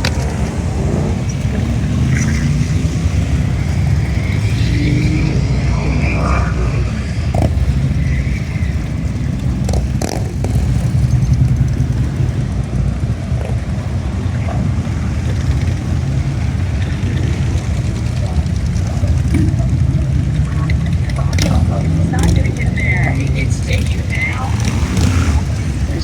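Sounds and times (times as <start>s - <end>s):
car engine rumbling: 0.0s - 26.0s.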